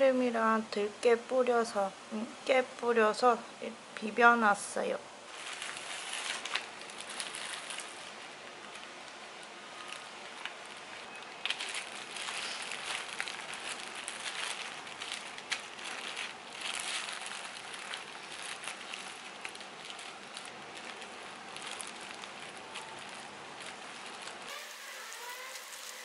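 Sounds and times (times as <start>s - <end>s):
steady hiss: 0.0s - 26.0s
plastic gloves crinkling: 4.2s - 26.0s.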